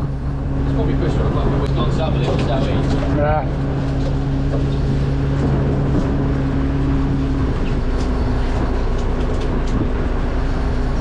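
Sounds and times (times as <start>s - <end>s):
boat engine droning: 0.0s - 11.0s
hydraulic net hauler hum: 0.0s - 11.0s.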